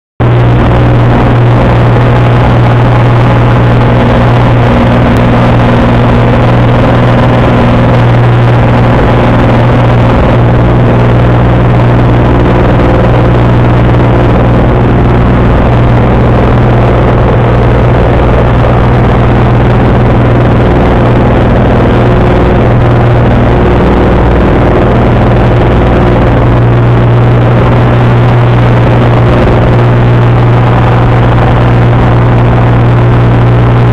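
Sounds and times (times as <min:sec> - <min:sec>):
propeller plane engine drone: 0:00.2 - 0:33.9.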